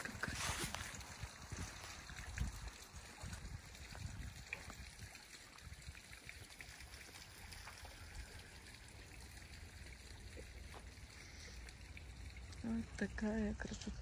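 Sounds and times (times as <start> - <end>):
water trickling over rock: 0.0 - 14.0.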